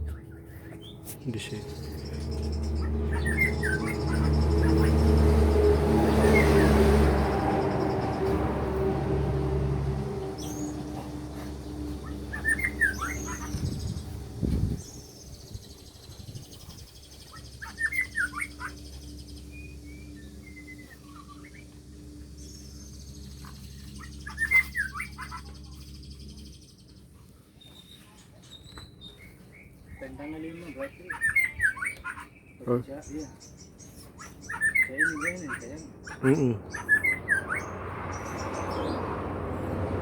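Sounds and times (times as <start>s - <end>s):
magpie-robin singing: 0.0s - 6.7s, 11.9s - 21.7s, 22.4s - 39.0s
low engine hum: 0.0s - 28.0s, 33.0s - 40.0s.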